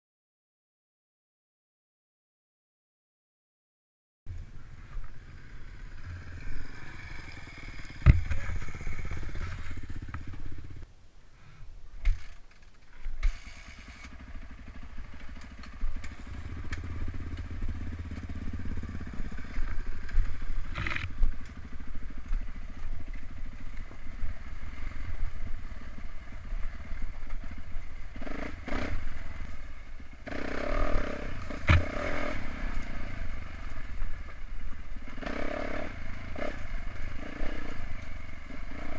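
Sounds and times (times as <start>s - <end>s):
dirt bike engines revving: 4.3s - 10.9s, 12.1s - 38.9s.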